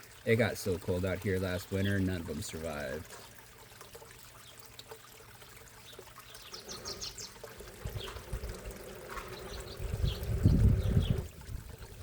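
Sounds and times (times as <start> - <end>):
water trickling into pond: 0.0 - 12.0.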